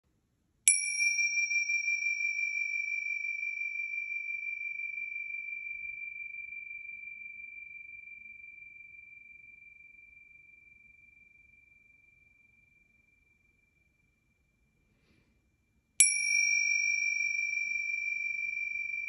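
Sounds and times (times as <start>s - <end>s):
finger cymbals ringing: 0.7s - 14.1s, 16.0s - 19.0s.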